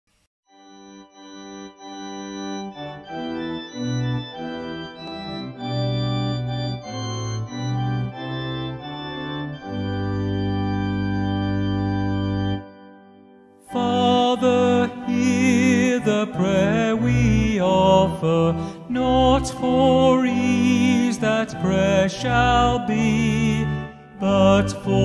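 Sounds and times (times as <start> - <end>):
organ playing a hymn tune: 0.5 - 25.0.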